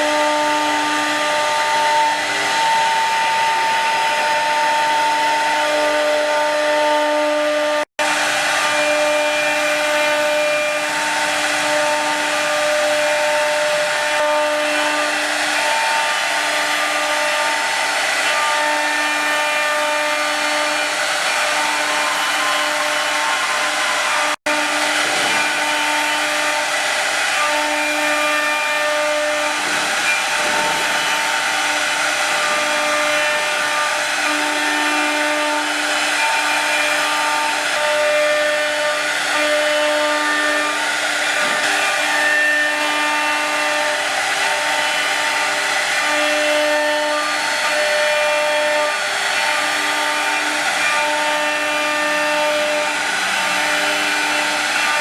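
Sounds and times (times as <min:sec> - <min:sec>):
router cutting noise: 0:00.0 - 0:55.0
router spindle whine: 0:00.0 - 0:55.0.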